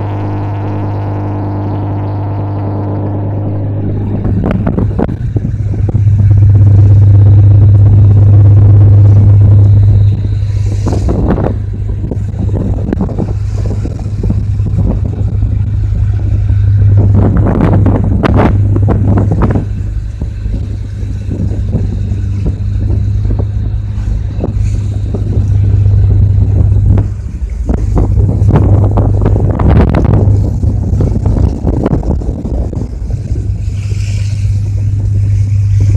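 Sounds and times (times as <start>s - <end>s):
boat diesel engine drone: 0.0s - 35.9s.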